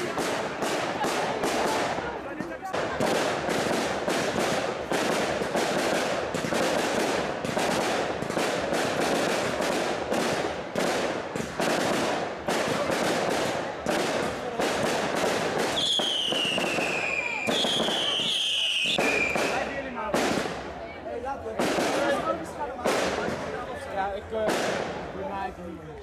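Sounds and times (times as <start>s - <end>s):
firework bangs: 0.0s - 20.9s, 21.5s - 25.2s
fireworks fountains hissing: 0.0s - 25.3s.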